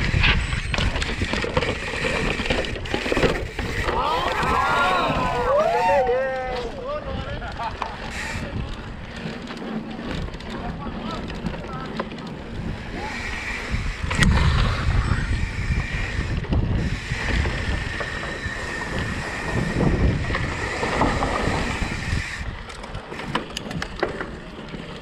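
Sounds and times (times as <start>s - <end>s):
wind rushing over microphone: 0.0s - 24.0s
bike tyres rolling over dirt: 0.0s - 25.0s.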